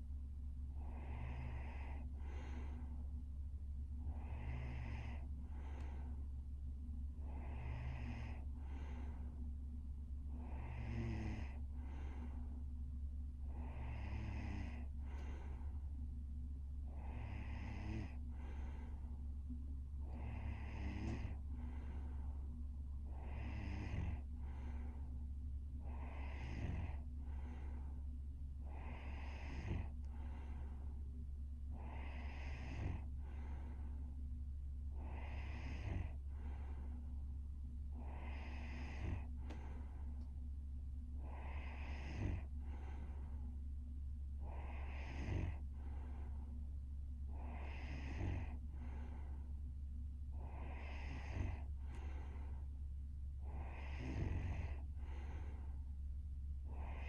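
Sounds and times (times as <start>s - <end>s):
steady low hum: 0.0s - 57.0s
woman breathing heavily and snoring: 0.0s - 57.0s.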